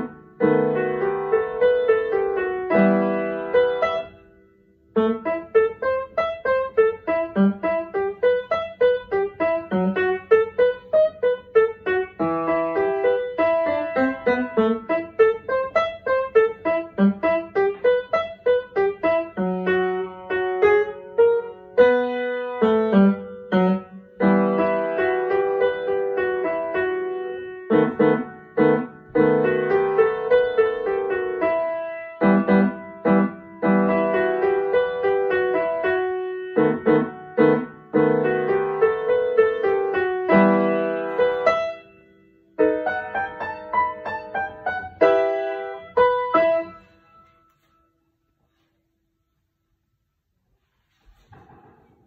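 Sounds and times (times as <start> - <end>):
solo upright piano piece: 0.0 - 49.2.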